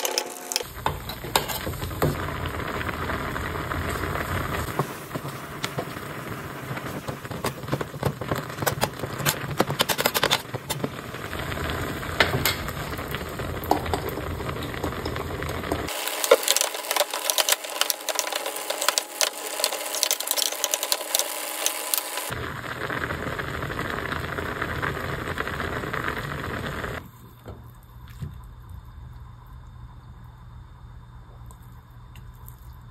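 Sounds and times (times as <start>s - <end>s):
broth bubbling in pot: 0.6s - 32.9s.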